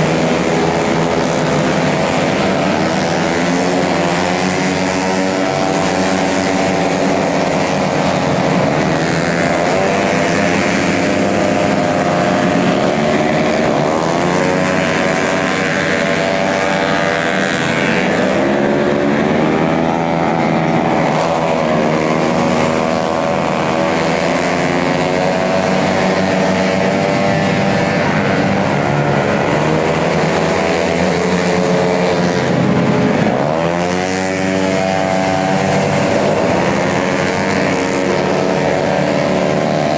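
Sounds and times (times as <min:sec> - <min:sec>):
scooter engines revving: 0:00.0 - 0:39.9.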